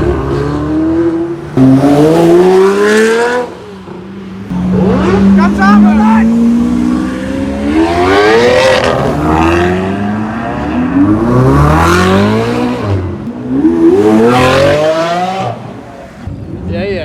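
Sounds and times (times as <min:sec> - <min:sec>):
car engine revving hard: 0:00.0 - 0:03.7, 0:04.5 - 0:16.0.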